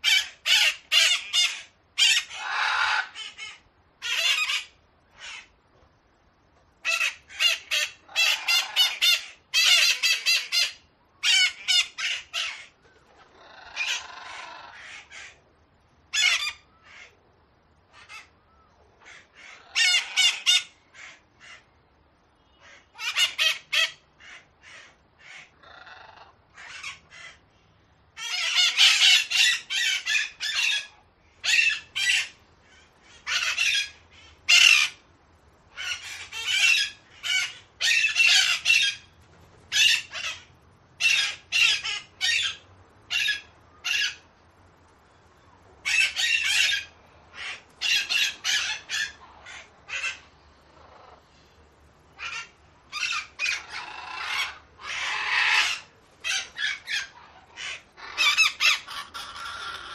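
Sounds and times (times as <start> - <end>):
parakeets screeching: 0.0 - 5.5, 6.8 - 15.4, 16.1 - 17.1, 17.9 - 18.4, 19.0 - 21.7, 22.5 - 27.4, 28.2 - 35.0, 35.7 - 44.4, 45.8 - 51.2, 52.1 - 59.9.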